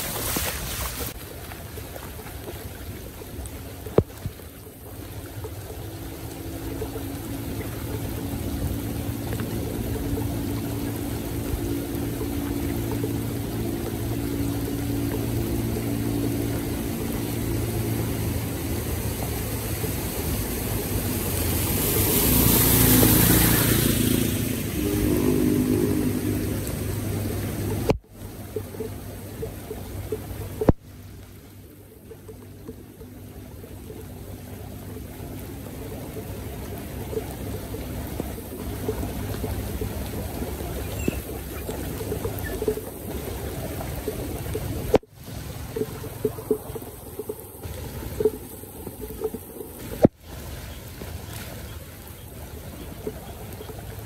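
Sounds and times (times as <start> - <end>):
low hum: 0.0 - 54.0
water rushing down a drain: 0.0 - 54.0.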